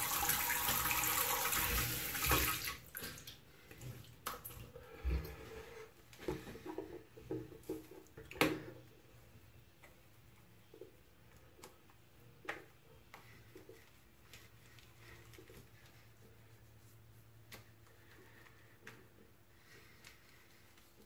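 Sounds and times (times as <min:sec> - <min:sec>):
low room tone hum: 0:00.0 - 0:21.0.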